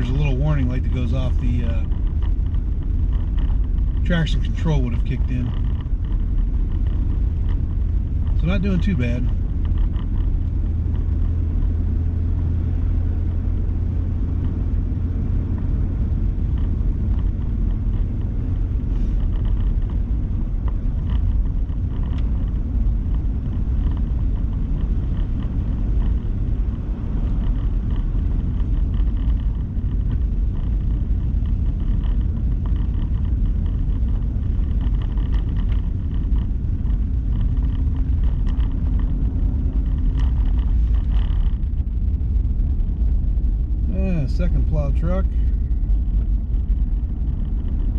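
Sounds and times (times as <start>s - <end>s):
tyres on snowy road: 0.0s - 47.9s
vehicle engine rumble: 0.0s - 47.9s.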